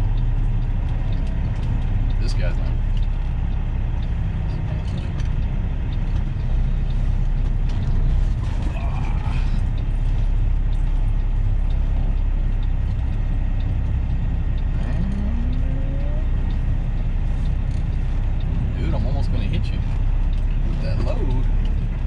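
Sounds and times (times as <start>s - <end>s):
diesel truck engine rumbling: 0.0s - 22.0s.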